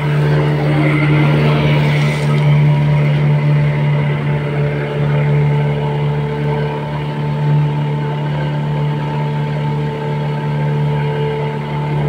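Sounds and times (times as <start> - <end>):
boat engine low hum: 0.0 - 12.0.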